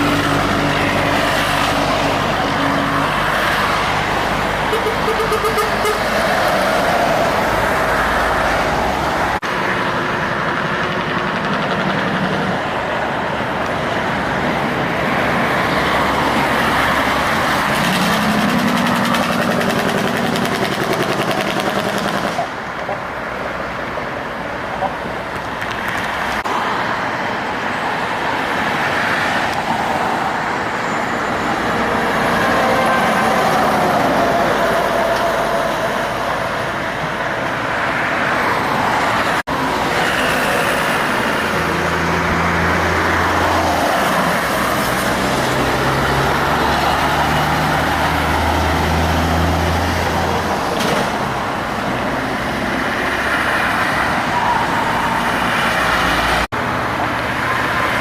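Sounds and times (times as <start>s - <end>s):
highway traffic passing: 0.0s - 58.0s.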